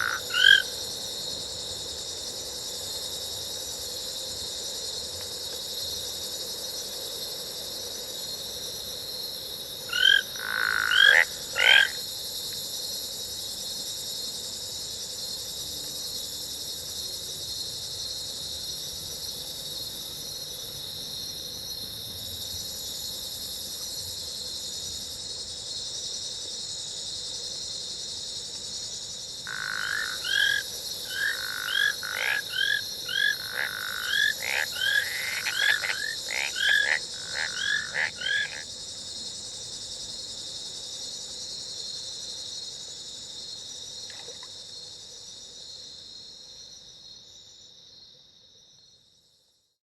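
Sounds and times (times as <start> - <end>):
high insect drone: 0.0 - 49.8.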